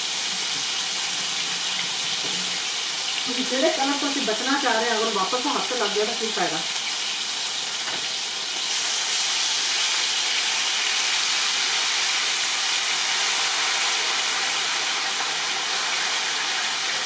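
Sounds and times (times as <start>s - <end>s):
chicken pieces sizzling in oil: 0.0s - 17.0s.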